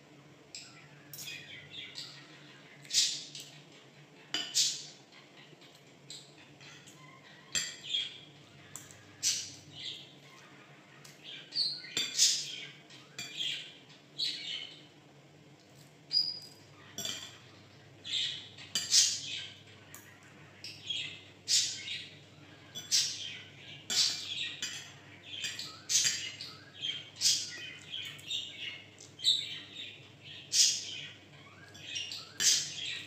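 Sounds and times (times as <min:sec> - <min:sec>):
bird chirping and squawking: 0:00.7 - 0:14.9, 0:16.1 - 0:33.0.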